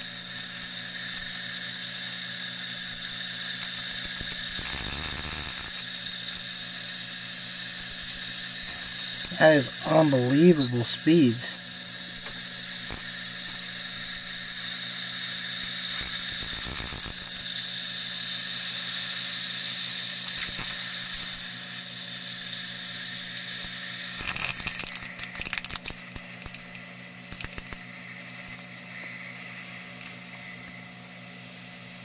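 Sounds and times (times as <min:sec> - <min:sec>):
motor high whine: 0:00.0 - 0:32.0.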